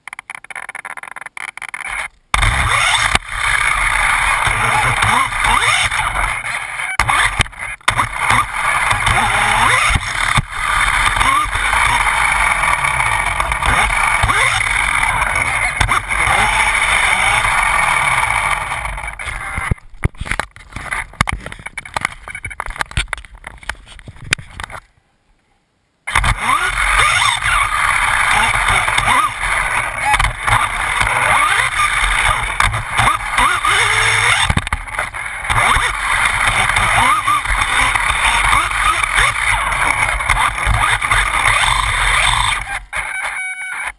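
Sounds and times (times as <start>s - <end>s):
tyre and drivetrain noise: 0.0s - 24.9s, 26.1s - 43.9s
electric motor whining: 1.9s - 19.8s, 26.1s - 43.9s.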